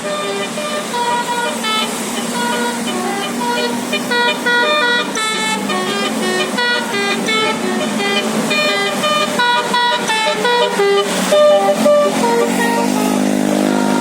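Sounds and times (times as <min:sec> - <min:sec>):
bus horn playing a melody: 0:00.0 - 0:14.0.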